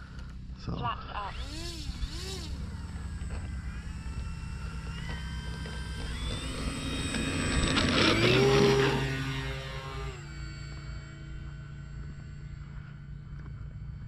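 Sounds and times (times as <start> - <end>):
electric motor and propeller whine: 0.0 - 14.0.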